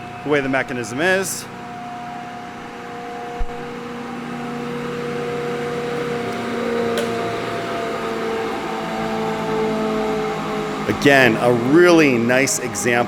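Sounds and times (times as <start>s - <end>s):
planer motor humming: 0.0s - 13.0s.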